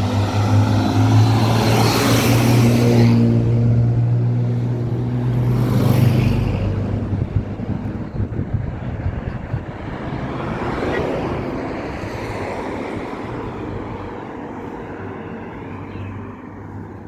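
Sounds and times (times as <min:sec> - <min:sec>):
motor vehicle passing: 0:00.0 - 0:17.0.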